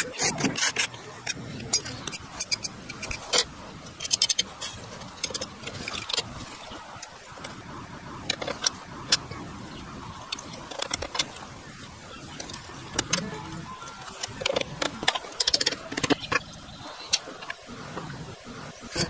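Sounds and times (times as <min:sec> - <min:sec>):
wood and tools clicking and tapping: 0:00.0 - 0:07.6, 0:08.2 - 0:09.3, 0:10.2 - 0:11.4, 0:12.2 - 0:18.1
steady background hiss: 0:00.0 - 0:19.0.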